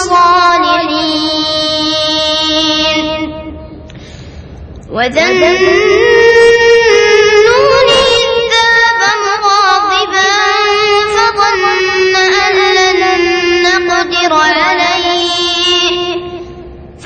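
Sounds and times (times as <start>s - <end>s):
boy chanting melodically: 0.0s - 3.8s, 4.9s - 16.7s.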